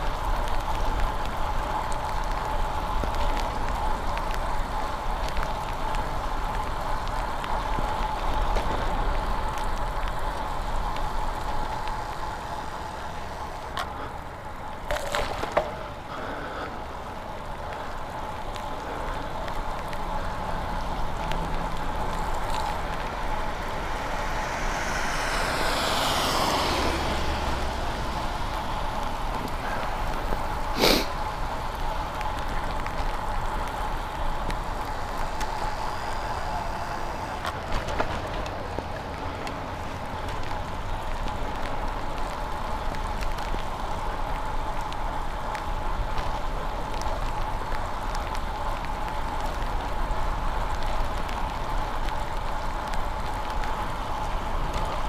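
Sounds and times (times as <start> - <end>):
car passing on wet road: 0.0 - 55.0
rain: 0.0 - 55.0
wet bicycle tyres hissing: 0.0 - 55.0.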